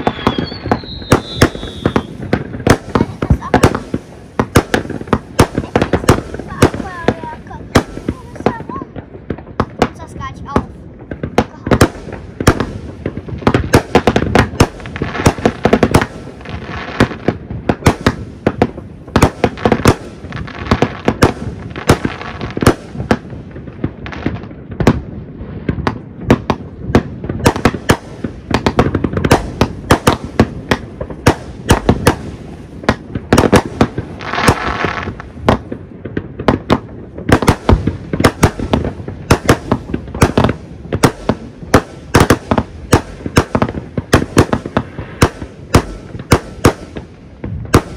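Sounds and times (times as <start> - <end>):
fireworks bangs and cracks: 0.0 - 47.9
fireworks crackling: 0.0 - 47.9.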